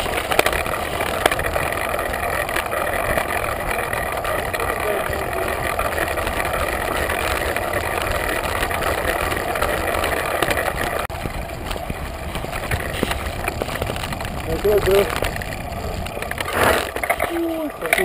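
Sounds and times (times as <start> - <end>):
wind rushing over microphone: 0.0 - 17.1
mountain bike rattling over rocks: 0.0 - 18.0.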